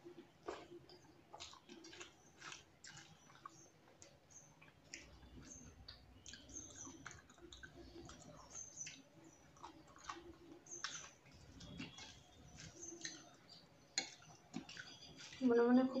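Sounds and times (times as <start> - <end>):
chewing with lip smacks: 0.0 - 15.5
fingers mixing rice: 0.0 - 16.0.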